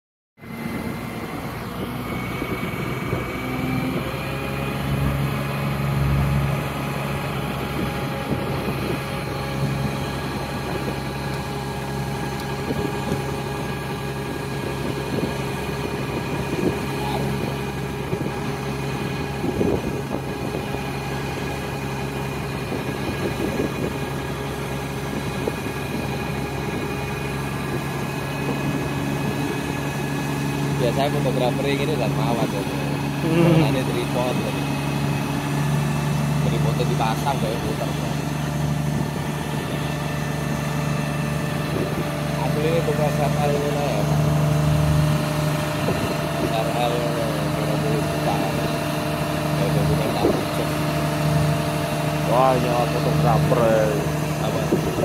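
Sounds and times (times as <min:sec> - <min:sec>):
diesel engine hum: 0:00.4 - 0:55.0.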